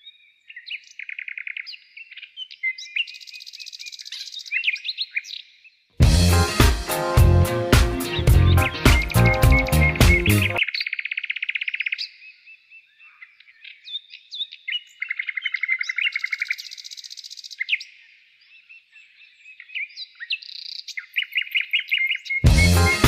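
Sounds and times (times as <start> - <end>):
songbirds singing trills: 0.0 - 5.9, 8.1 - 23.0.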